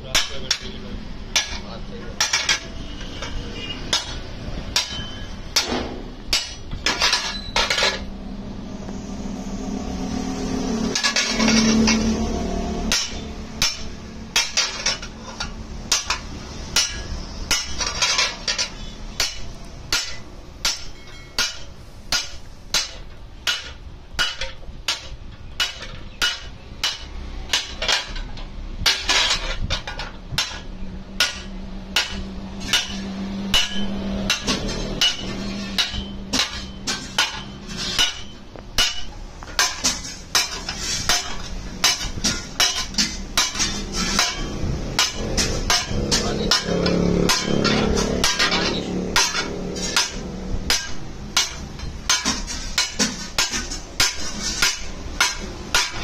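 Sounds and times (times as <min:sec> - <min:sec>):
hammer striking metal: 0:00.0 - 0:08.1, 0:09.0 - 0:56.0.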